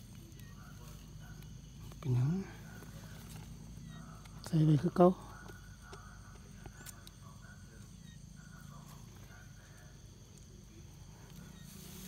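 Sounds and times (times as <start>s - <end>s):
steady low hum: 0.0s - 12.0s
thin high insect-like tones: 0.0s - 12.0s.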